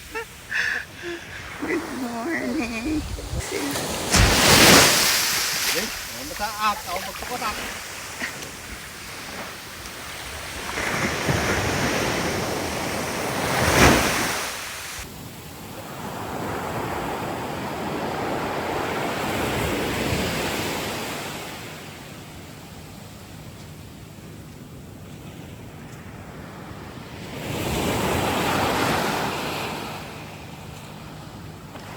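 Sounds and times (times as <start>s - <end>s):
ocean waves breaking: 0.0s - 23.5s, 25.0s - 31.9s.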